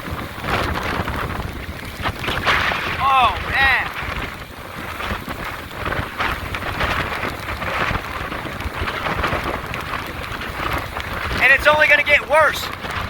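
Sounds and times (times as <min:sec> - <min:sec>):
heavy rain: 0:00.0 - 0:13.0
hurricane wind: 0:00.0 - 0:13.0.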